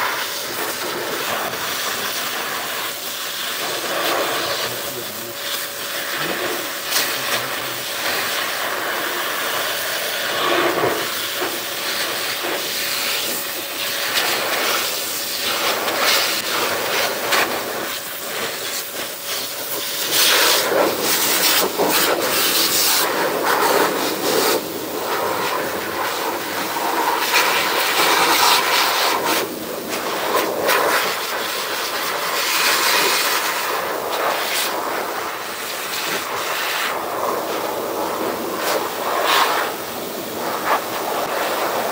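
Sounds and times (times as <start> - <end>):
grooming blower rushing air: 0.0 - 41.9.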